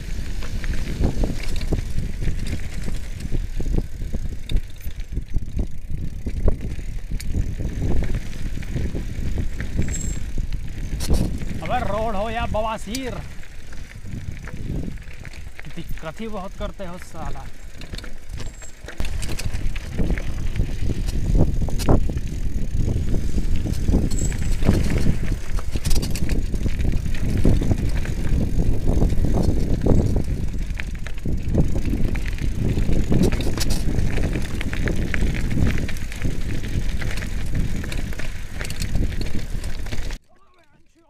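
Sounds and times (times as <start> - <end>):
bike parts rattling: 0.0 - 41.0
bike tyres crunching on gravel: 0.0 - 41.0.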